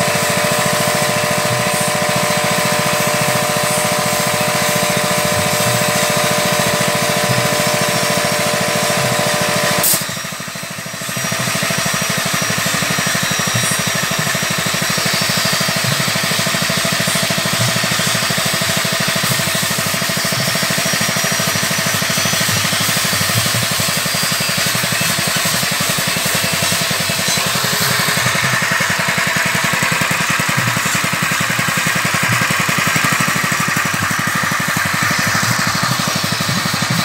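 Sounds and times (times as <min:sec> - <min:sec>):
machine motor pulsing: 0:00.0 - 0:37.0.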